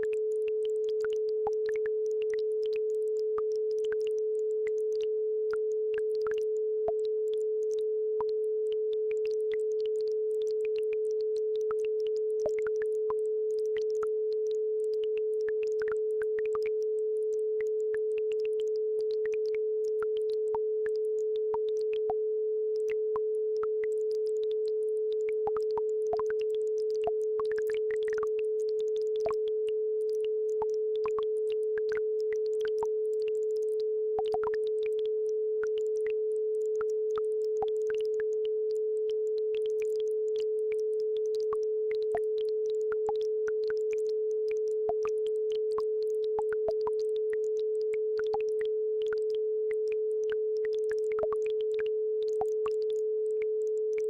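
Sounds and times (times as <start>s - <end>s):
steady sine tone: 0.0s - 54.0s.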